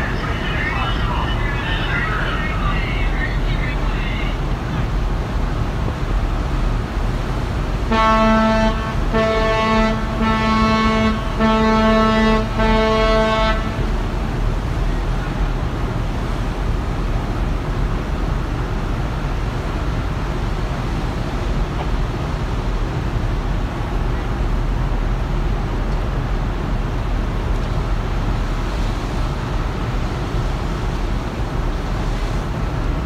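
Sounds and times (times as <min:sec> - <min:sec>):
wind and sea rushing: 0:00.0 - 0:33.0.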